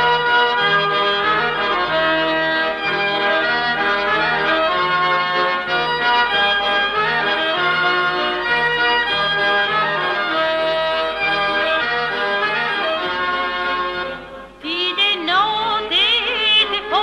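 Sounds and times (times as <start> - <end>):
accordion-led folk music: 0.0 - 17.0.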